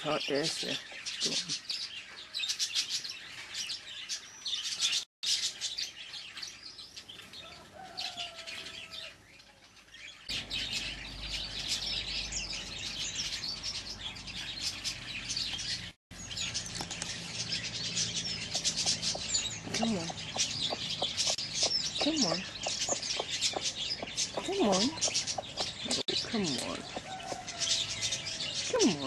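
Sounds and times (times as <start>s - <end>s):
songbirds chirping and twittering: 0.0s - 29.0s.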